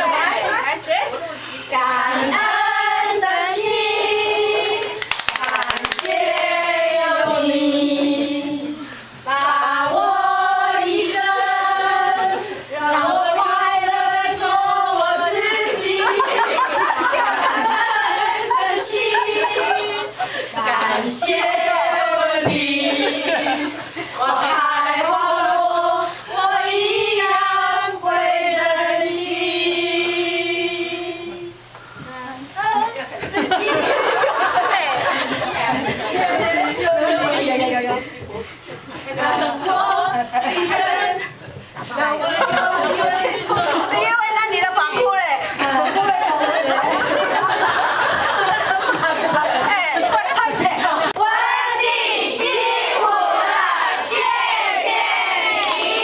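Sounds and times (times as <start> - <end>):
women singing in unison: 0.0 - 56.0.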